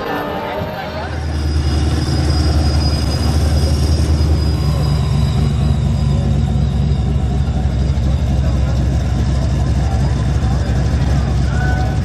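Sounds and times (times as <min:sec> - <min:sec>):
vehicle engine running: 0:01.0 - 0:12.0.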